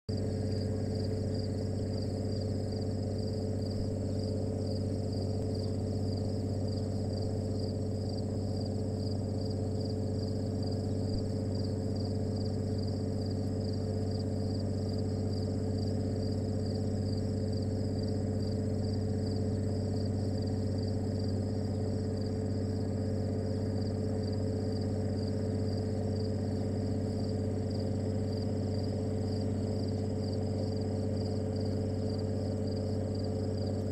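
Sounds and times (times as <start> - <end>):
insects chirring: 0.1 - 33.9
steady low hum: 0.1 - 33.9.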